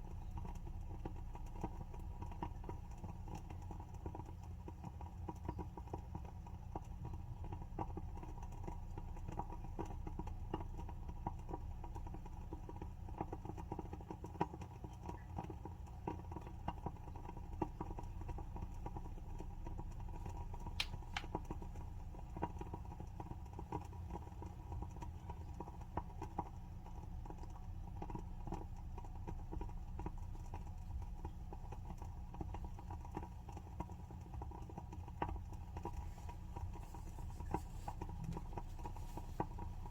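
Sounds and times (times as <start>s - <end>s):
wooden candle wick crackling: 0.1s - 39.9s.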